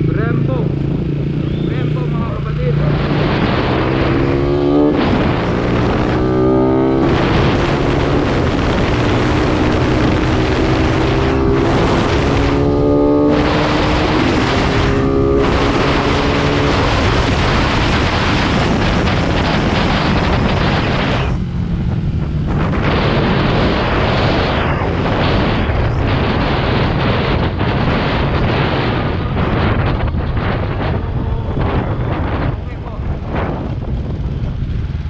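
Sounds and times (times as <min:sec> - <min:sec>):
motorcycle engine running: 0:00.0 - 0:35.0
wind rushing over microphone: 0:00.0 - 0:35.0.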